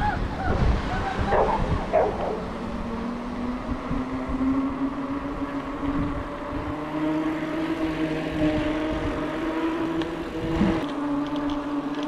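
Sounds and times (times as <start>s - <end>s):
mountain bike rolling on trail: 1.4s - 12.0s.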